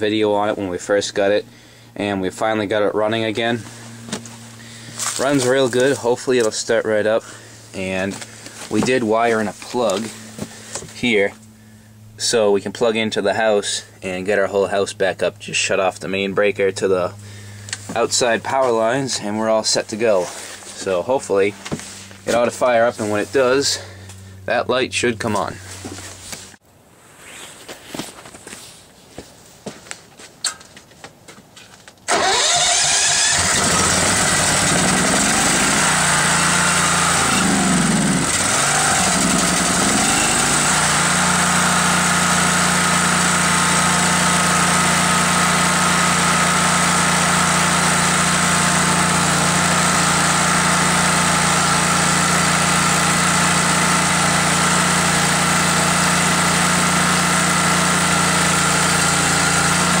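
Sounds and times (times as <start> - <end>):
generator engine starting and running: 0.0 - 26.6, 32.1 - 60.0.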